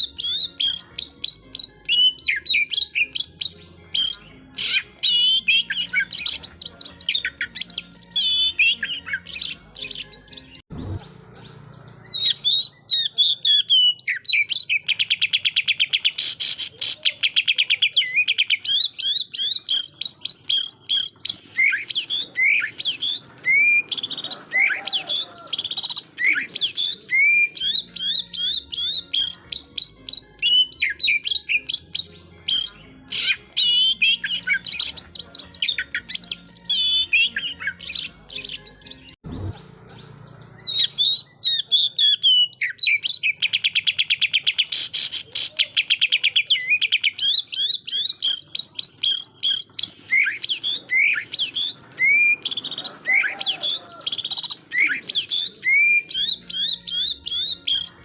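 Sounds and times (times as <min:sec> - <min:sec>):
bird singing whistled phrases: 0:00.0 - 0:11.0, 0:12.0 - 0:39.2, 0:40.6 - 0:58.0.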